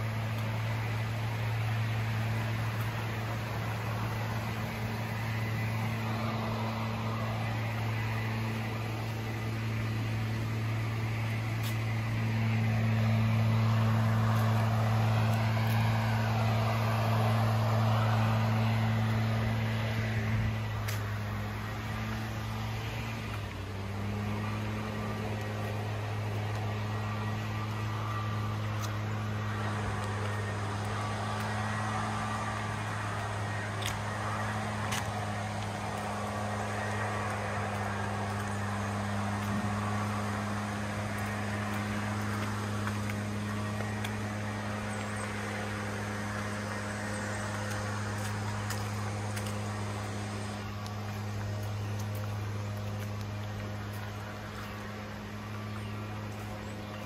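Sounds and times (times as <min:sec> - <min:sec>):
low motor hum: 0:00.0 - 0:57.0.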